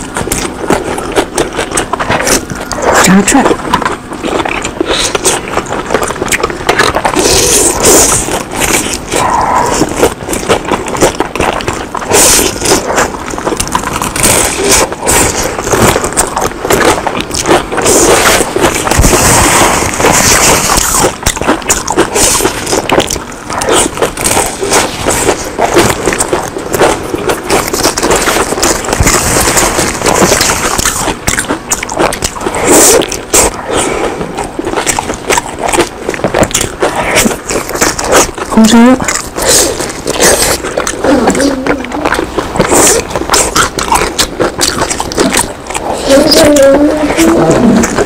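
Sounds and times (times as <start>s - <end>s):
crunching and chewing fried food: 0.0s - 48.0s
loud bite: 0.0s - 48.0s.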